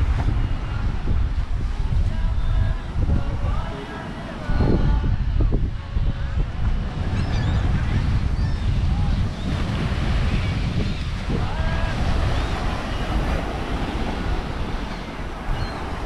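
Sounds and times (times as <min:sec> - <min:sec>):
surf washing on sandy beach: 0:00.0 - 0:16.0
wind buffeting microphone: 0:00.0 - 0:16.0.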